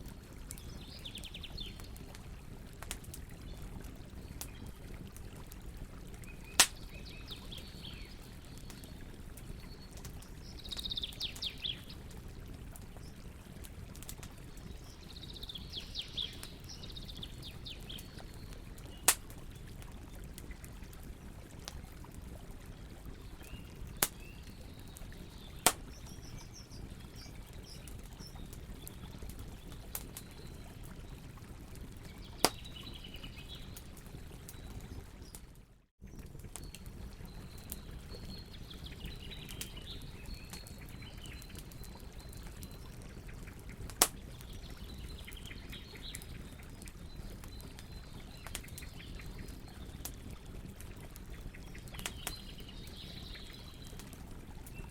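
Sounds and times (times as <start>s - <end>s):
campfire crackling: 0.0s - 35.4s, 36.0s - 54.9s
fire popping: 0.0s - 35.4s, 36.0s - 54.9s.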